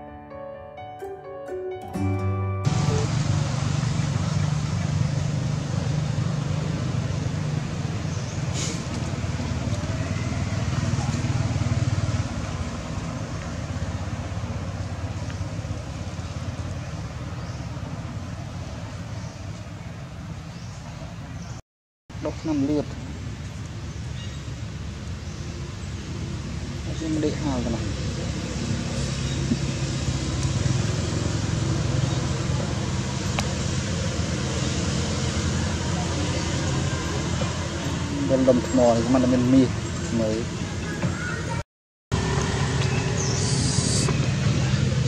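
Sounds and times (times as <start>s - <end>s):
vehicle engine humming: 1.5s - 45.0s.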